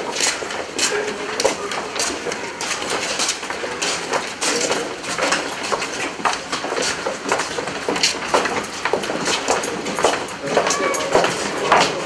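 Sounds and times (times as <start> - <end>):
footsteps on paved path: 0.0 - 12.0.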